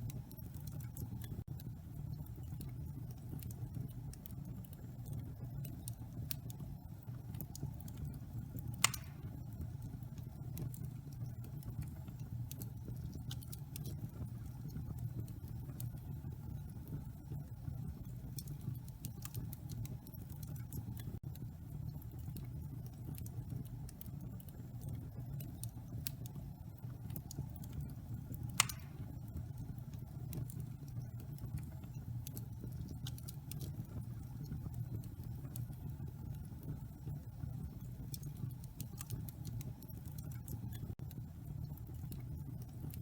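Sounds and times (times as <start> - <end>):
fire crackles and pops: 0.0 - 43.0
wood fire rumbling: 0.0 - 43.0.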